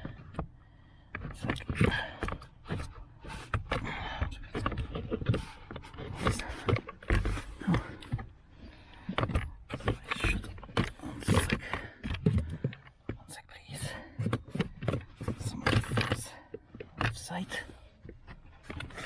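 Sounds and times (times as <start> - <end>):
hard plastic knocking and scraping: 0.0 - 19.0.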